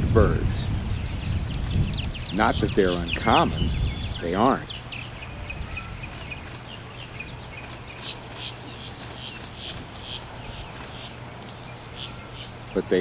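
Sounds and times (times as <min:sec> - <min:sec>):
low steady hum: 0:00.0 - 0:13.0
high chirps and ticks: 0:01.1 - 0:13.0.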